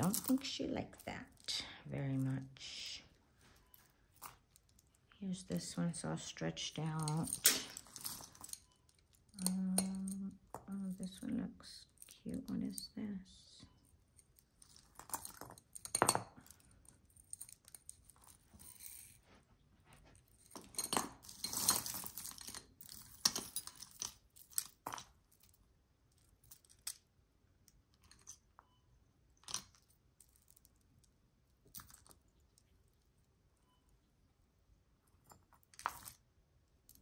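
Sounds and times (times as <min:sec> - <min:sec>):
jewelry chains and beads clinking: 0:00.0 - 0:19.4, 0:20.0 - 0:27.1, 0:27.9 - 0:34.1, 0:34.9 - 0:37.0.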